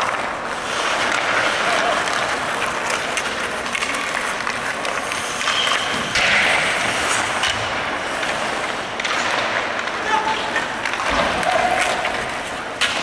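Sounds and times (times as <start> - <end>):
hockey sticks and pucks clacking: 0.0 - 13.0
skate blades scraping ice: 0.0 - 13.0.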